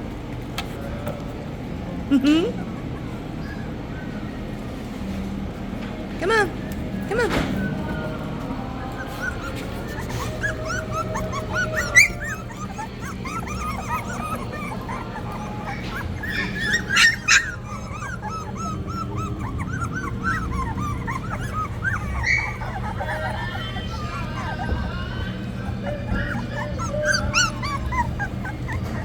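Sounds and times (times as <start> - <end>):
puppies whimpering and squeaking: 2.3 - 5.3, 6.2 - 29.0
puppies yelping: 2.5 - 4.8, 6.2 - 29.0.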